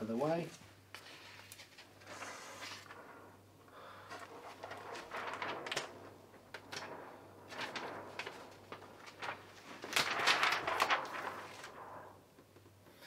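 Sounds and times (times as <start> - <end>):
irregular rustling: 0.4 - 12.8.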